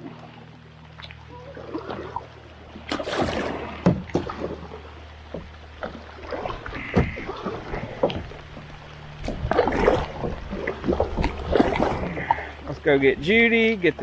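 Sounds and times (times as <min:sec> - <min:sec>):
steady low hum: 0:00.0 - 0:14.0
paddle splashing in water: 0:00.9 - 0:14.0.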